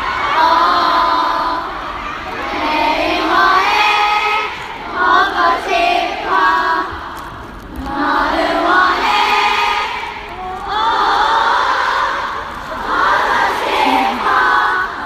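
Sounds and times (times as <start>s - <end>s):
crowd singing in unison: 0.0s - 15.0s.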